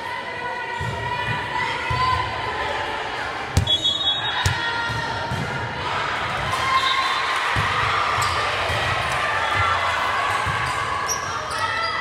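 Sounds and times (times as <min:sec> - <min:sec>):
crowd noise in a gym: 0:00.0 - 0:12.0.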